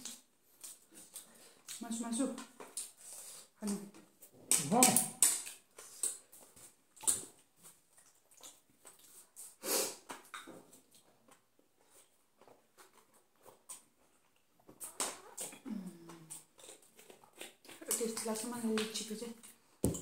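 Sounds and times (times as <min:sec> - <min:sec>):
chewing: 0:00.0 - 0:01.8, 0:02.4 - 0:19.7.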